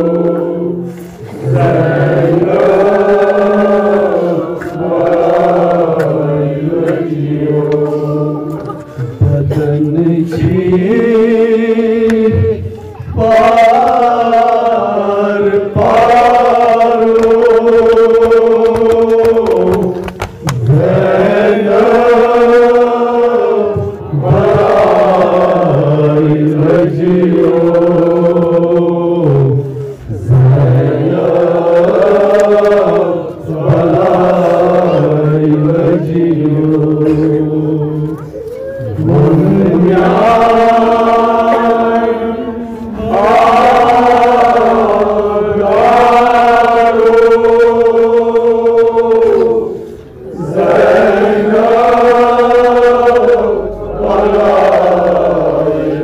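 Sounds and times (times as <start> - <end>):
men chanting a lament: 0.0 - 56.0.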